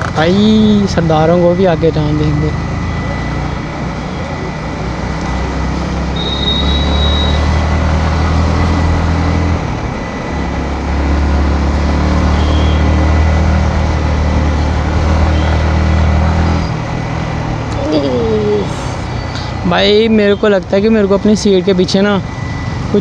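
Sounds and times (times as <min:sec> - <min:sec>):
motorcycle engine running: 0:00.0 - 0:20.1
wind and road noise: 0:00.0 - 0:22.9.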